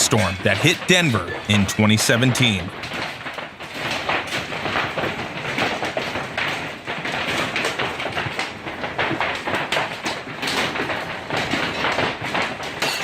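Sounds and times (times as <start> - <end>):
hail clattering on hard surfaces: 0.0 - 13.0.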